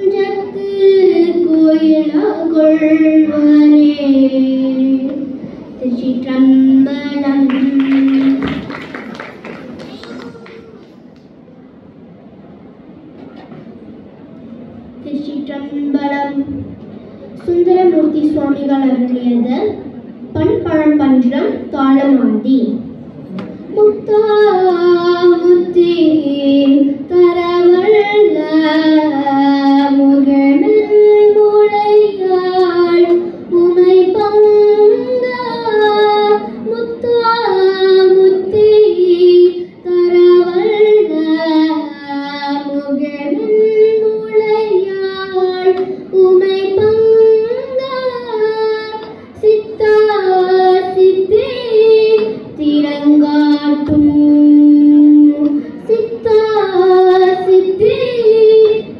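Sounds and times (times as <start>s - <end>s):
girl singing into a microphone: 0.0s - 9.0s, 15.0s - 22.9s, 23.6s - 58.9s.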